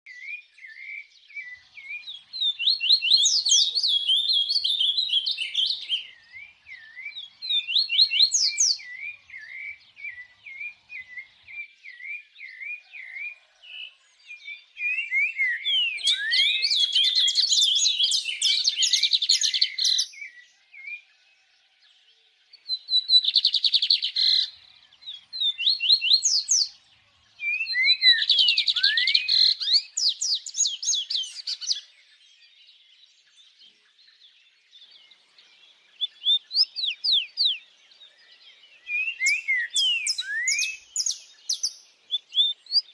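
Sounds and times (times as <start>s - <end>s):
songbirds chirping and whistling: 0.0s - 42.9s.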